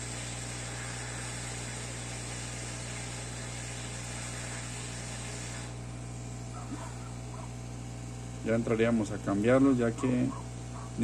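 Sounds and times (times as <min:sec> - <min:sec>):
fan blowing air: 0:00.0 - 0:11.0
low electrical hum: 0:00.0 - 0:11.0.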